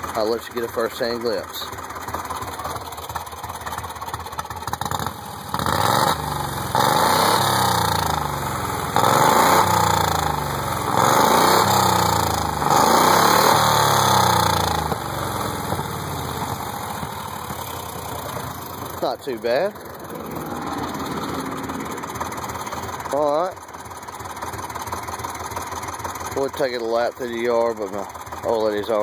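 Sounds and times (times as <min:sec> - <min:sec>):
golf cart engine revving: 0:00.0 - 0:29.0.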